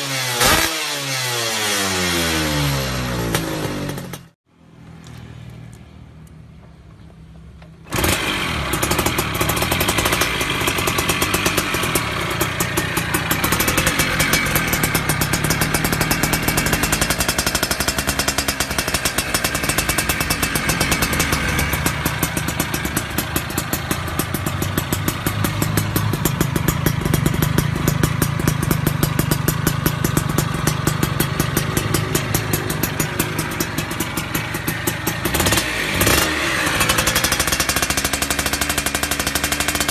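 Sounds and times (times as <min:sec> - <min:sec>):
two-stroke motorcycle engine: 0:00.0 - 0:04.4, 0:07.5 - 0:39.9.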